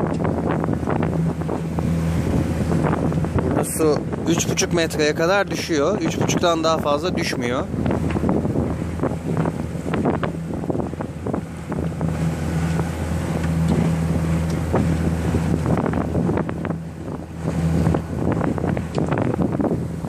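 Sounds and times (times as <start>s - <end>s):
outboard motor running: 0.0s - 20.0s
water rushing past hull: 0.0s - 20.0s
wind buffeting microphone: 0.0s - 20.0s.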